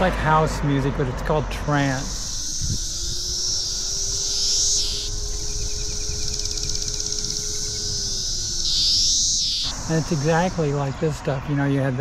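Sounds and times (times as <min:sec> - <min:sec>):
cicadas chorus droning: 0:00.2 - 0:12.0.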